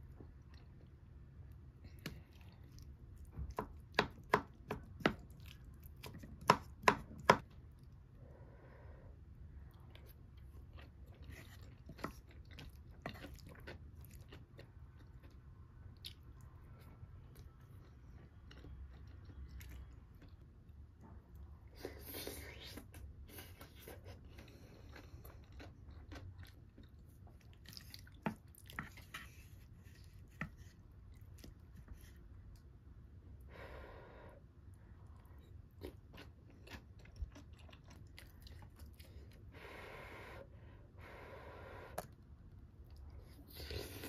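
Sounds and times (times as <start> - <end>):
person chewing food: 0.0 - 8.1, 9.6 - 33.1, 34.6 - 39.6, 41.9 - 44.0.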